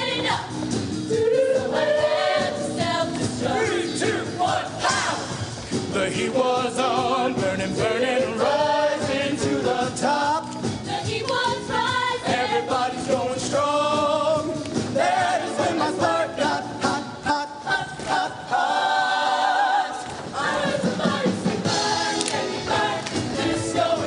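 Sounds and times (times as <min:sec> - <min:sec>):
backing music: 0:00.0 - 0:24.0
choir singing in harmony: 0:00.0 - 0:24.0.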